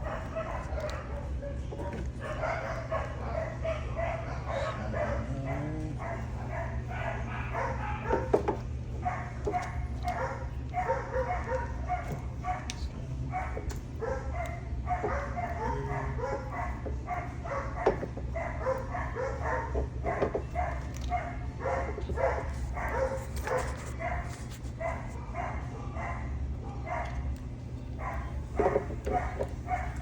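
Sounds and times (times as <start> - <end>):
dog barking: 0.0 - 30.0
steady low hum: 0.0 - 30.0.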